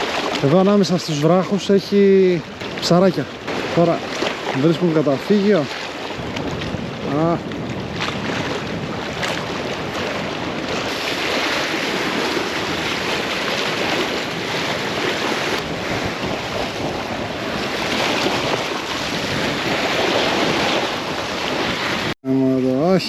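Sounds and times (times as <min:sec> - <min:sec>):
sea waves washing against rocks: 0:00.0 - 0:22.2
wind on microphone: 0:00.0 - 0:22.2.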